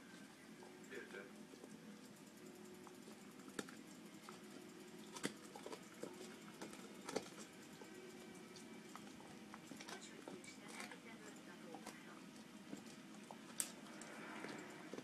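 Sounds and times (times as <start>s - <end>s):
dog gnawing on bone: 0.0s - 15.0s.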